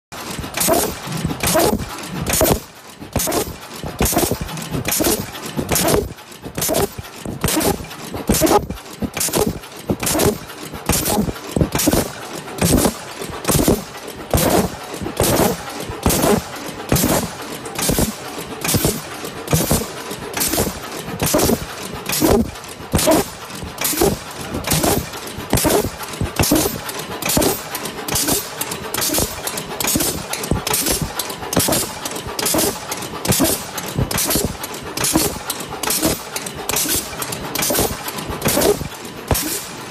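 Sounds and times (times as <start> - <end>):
machine clacking rhythmically: 0.1 - 39.9.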